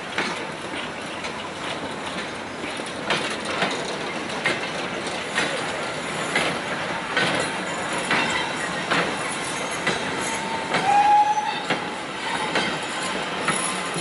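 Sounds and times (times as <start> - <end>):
train wheels rumbling on rail: 0.0 - 14.0
wheels clacking over rail joints: 0.0 - 14.0.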